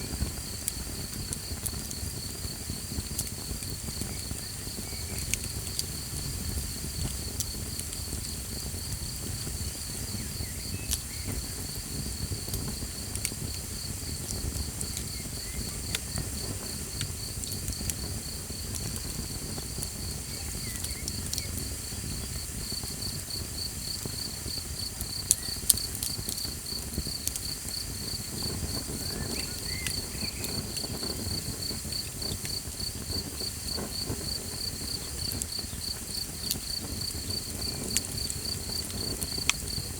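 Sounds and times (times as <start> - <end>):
campfire rumble: 0.0 - 39.9
fire crackles and pops: 0.0 - 39.9
insects trilling: 0.0 - 39.9.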